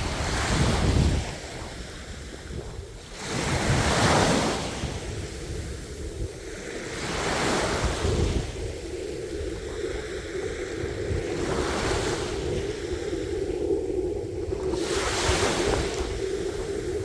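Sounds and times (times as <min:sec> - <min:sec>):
ocean surf rumbling: 0:00.0 - 0:17.0.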